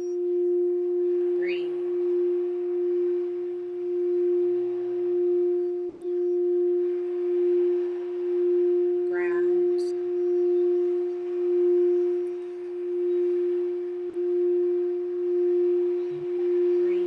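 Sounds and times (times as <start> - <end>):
singing bowl humming: 0.0 - 17.0.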